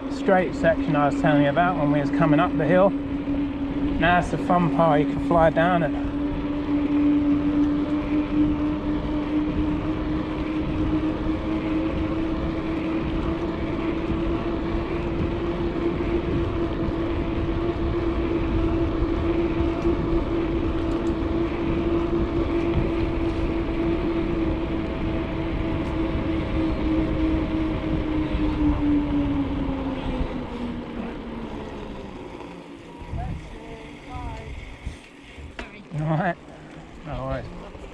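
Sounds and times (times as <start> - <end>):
wind rushing over microphone: 0.0 - 36.0
rolling bicycle hum: 0.0 - 37.9.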